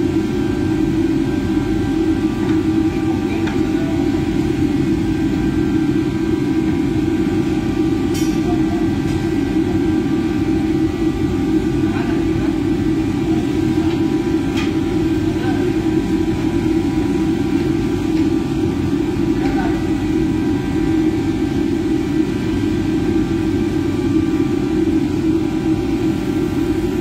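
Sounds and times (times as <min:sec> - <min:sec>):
exhaust fan hum: 0:00.0 - 0:27.0.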